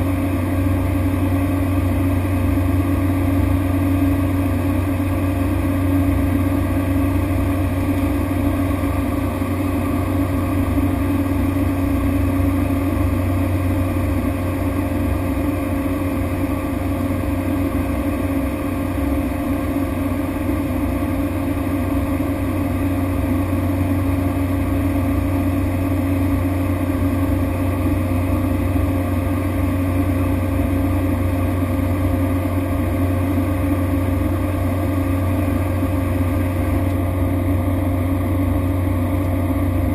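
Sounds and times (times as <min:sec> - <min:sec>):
turboprop drone in cabin: 0:00.0 - 0:39.9.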